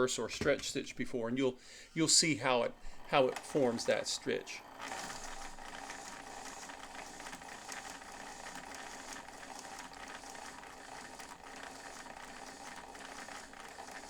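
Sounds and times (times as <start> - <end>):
sewing machine clatter: 2.0 - 14.0.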